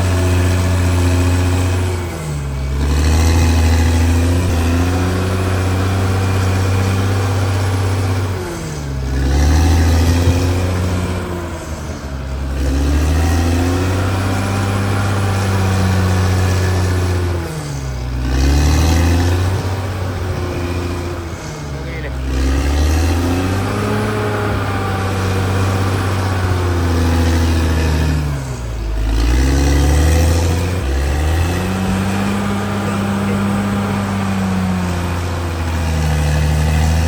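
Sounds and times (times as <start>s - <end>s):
bulldozer diesel engine: 0.0s - 37.0s.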